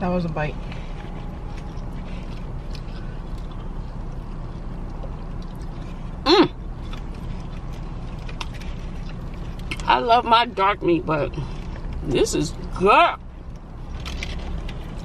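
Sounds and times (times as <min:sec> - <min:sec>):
low rumble inside car: 0:00.0 - 0:15.0
faint chewing: 0:00.2 - 0:15.0.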